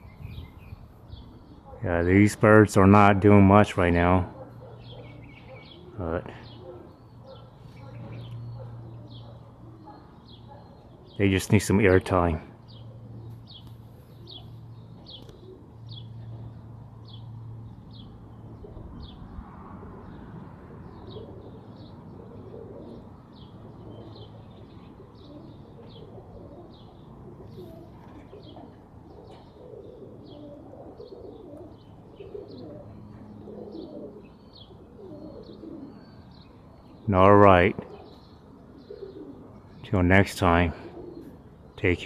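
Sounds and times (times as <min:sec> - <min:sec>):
pigeons cooing: 0:00.0 - 0:42.0.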